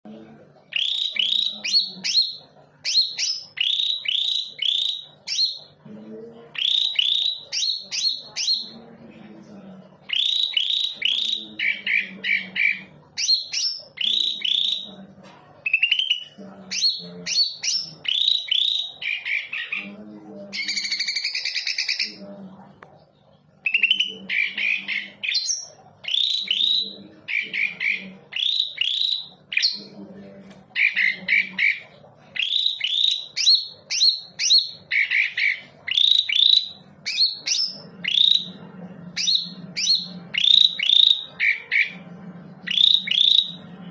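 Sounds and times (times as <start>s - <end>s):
bird whistling and trilling: 0.7s - 5.7s, 6.6s - 8.8s, 10.1s - 14.9s, 15.7s - 19.8s, 20.6s - 22.2s, 23.6s - 29.8s, 30.8s - 38.6s, 39.2s - 42.0s, 42.6s - 43.6s.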